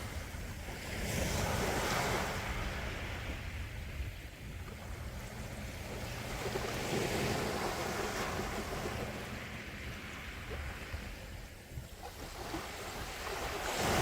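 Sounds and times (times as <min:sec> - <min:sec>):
low rumble of surf: 0:00.0 - 0:14.0
sea waves washing onto shore: 0:00.0 - 0:14.0.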